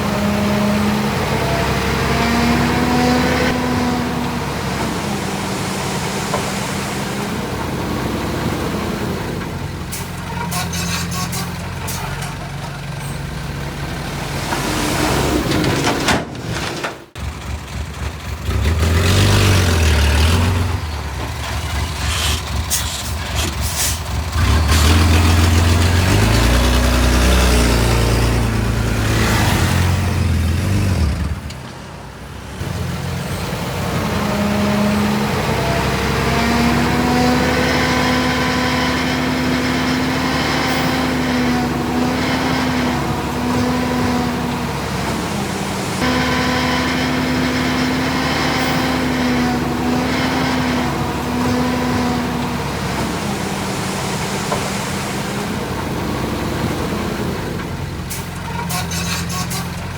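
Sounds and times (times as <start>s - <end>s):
engine speeding up: 0.0s - 9.7s, 17.2s - 31.7s, 32.6s - 58.0s
diesel machinery revving: 0.0s - 59.9s.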